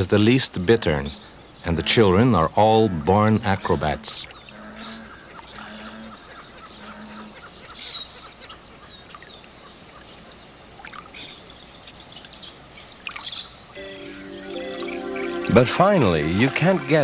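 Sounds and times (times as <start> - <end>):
birds chirping and whistling: 0.0 - 10.5, 11.1 - 17.0.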